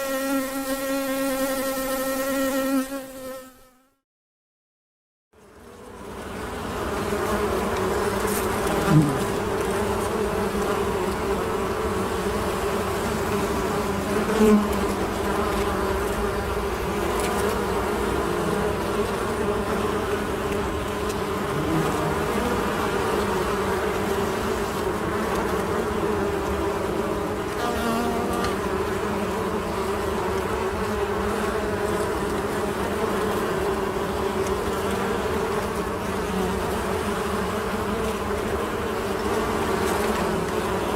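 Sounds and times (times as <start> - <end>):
bees buzzing: 0.0 - 3.9, 5.4 - 40.9
single bee passing close: 0.0 - 4.0, 5.4 - 40.9.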